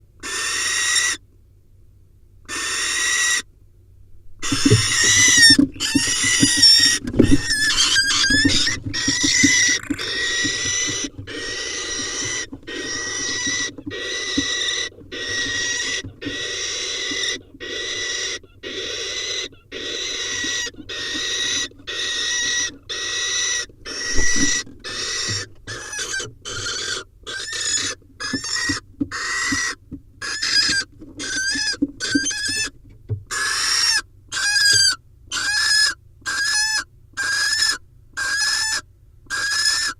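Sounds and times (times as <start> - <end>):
barn owls screeching: 0.2 - 1.2, 2.5 - 3.5, 4.4 - 39.9.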